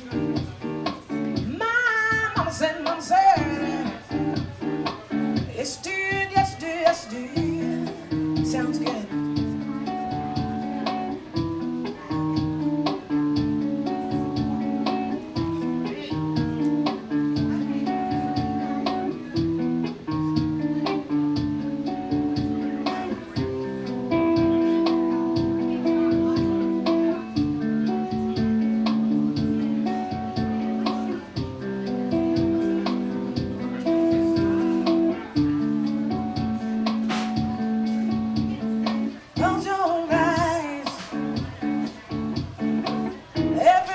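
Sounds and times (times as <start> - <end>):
guitar strumming: 0.0 - 43.9.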